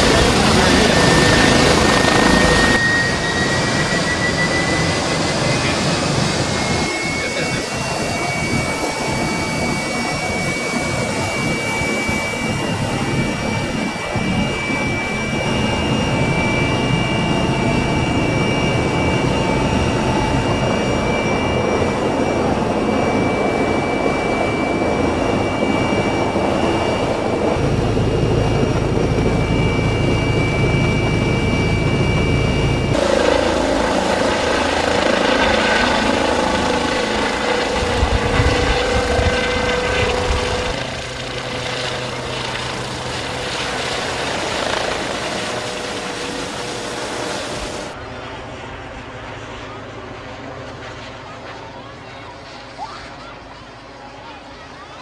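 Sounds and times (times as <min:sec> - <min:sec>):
helicopter engines and rotor: 0:00.0 - 0:55.0.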